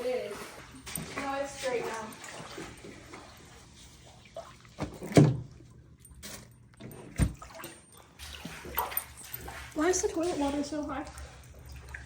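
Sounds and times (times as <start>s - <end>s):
faint standing water sounds: 0.0s - 12.0s.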